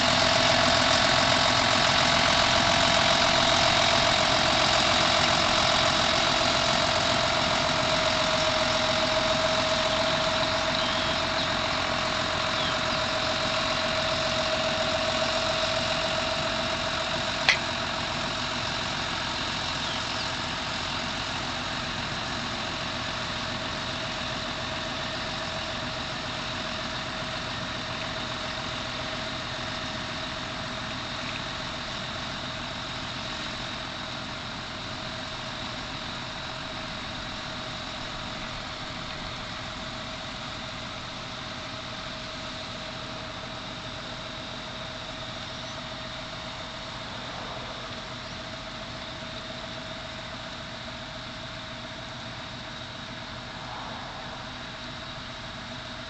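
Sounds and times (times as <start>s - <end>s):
tractor engine running with high whine: 0.0s - 56.0s.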